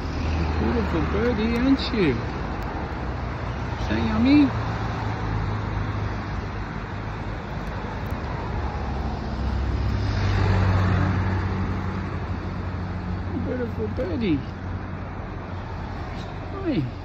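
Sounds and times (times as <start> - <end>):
vehicle passing: 0.0 - 17.0.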